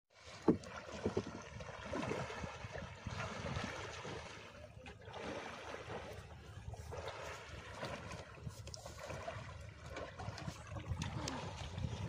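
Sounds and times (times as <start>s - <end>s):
water sloshing and splashing: 0.1s - 12.0s.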